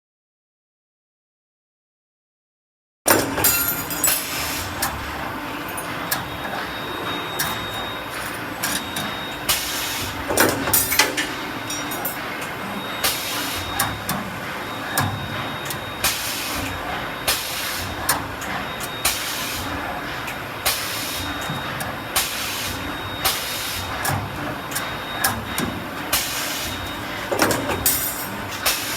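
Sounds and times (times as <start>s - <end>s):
wire-bending machine running: 3.1s - 28.9s.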